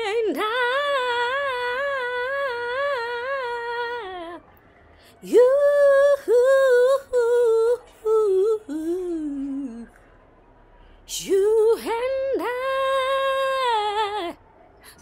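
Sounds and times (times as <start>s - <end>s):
woman singing unaccompanied: 0.0s - 4.5s, 5.2s - 10.0s, 11.1s - 15.0s.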